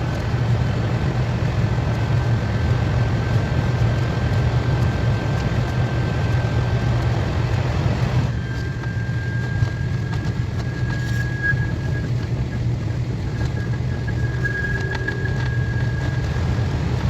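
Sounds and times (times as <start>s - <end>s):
thin constant whine: 0.0s - 17.0s
train rumble and rushing: 0.0s - 17.0s.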